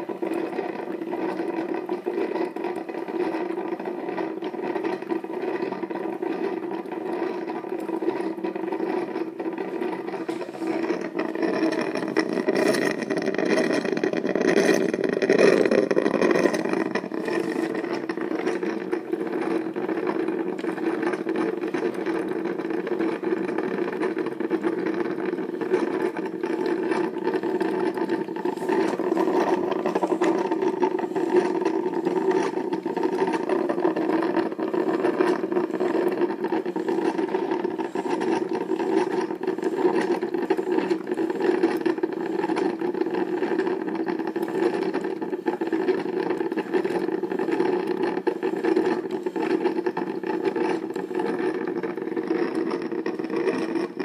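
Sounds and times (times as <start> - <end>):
coffee maker bubbling: 0.0 - 54.0.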